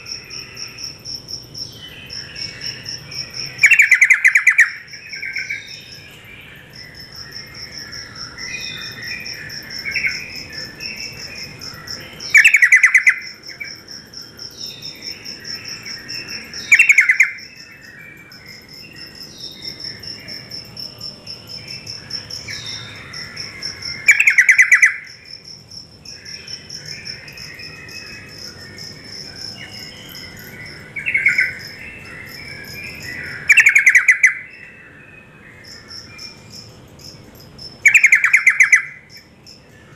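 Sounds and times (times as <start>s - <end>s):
insect chirring: 0.0s - 34.9s, 35.5s - 39.9s.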